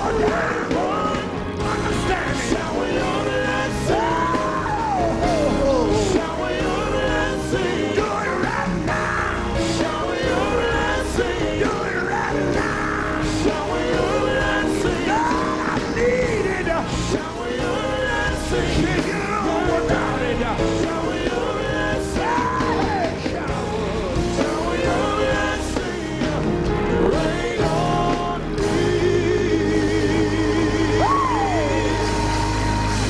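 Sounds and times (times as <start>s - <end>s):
gospel band playing: 0.0s - 33.0s
lead voice singing and shouting: 0.0s - 33.0s.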